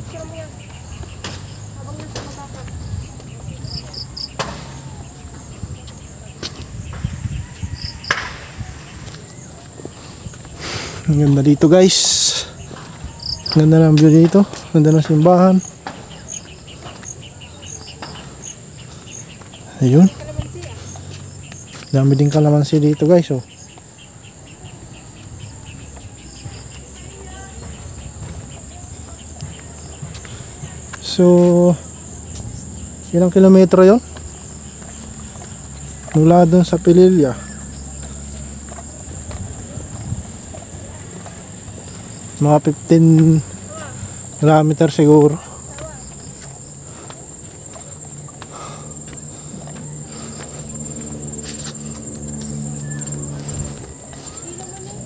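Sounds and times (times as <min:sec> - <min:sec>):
footsteps on paved path: 0:00.0 - 0:55.0
insects droning: 0:00.0 - 0:55.0
rapid insect chirp: 0:00.0 - 0:55.0.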